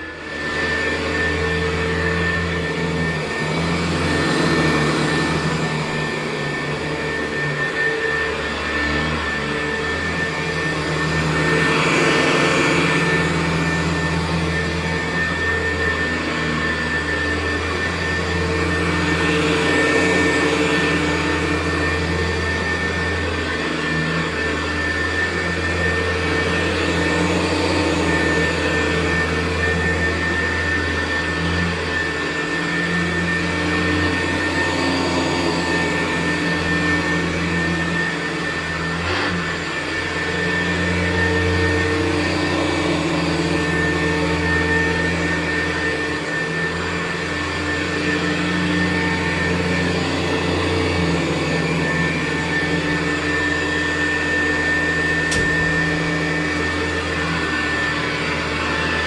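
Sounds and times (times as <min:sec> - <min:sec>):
vacuum cleaner running over carpet: 0:00.0 - 0:59.0.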